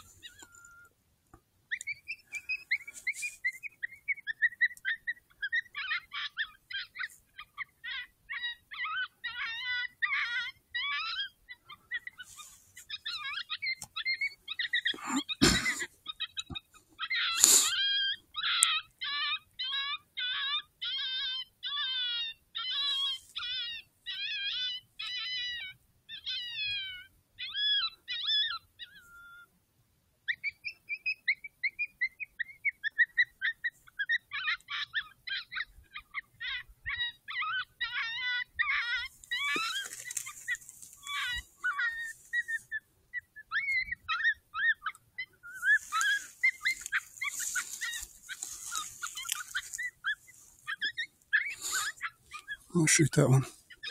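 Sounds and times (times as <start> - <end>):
electronic yelping animal call: 3.9 - 29.5, 30.3 - 53.9.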